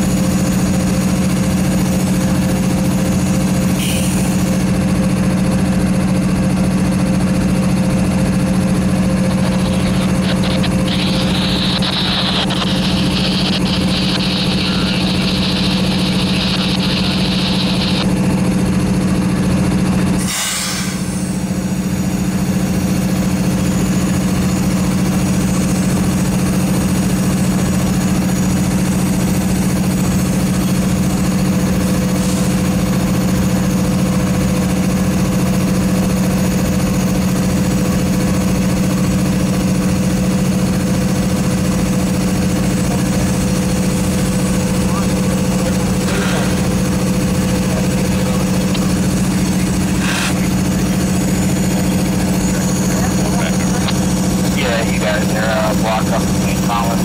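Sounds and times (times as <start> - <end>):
diesel locomotive idling: 0.0 - 57.0.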